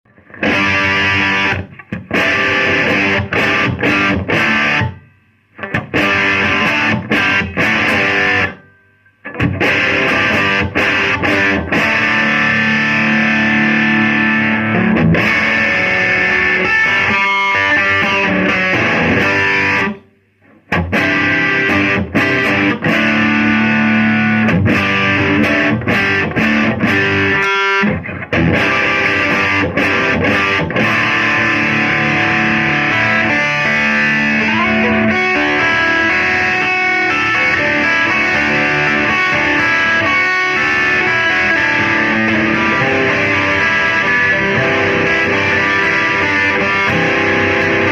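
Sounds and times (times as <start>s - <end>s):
distorted electric guitar: 0.1s - 47.9s.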